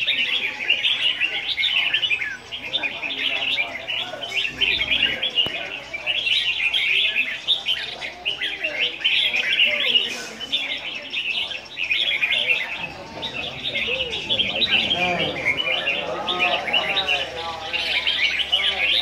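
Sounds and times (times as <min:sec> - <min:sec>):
bulbuls chirping: 0:00.0 - 0:19.0.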